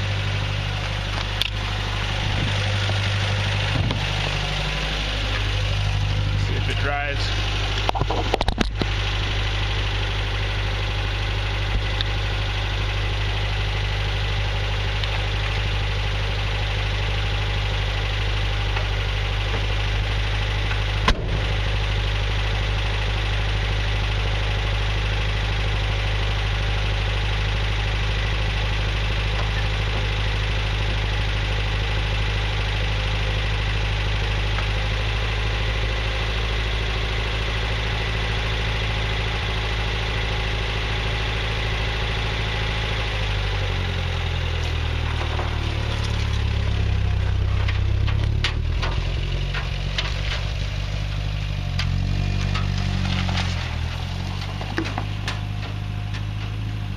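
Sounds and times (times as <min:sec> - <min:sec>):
old pickup engine running: 0:00.0 - 0:56.9.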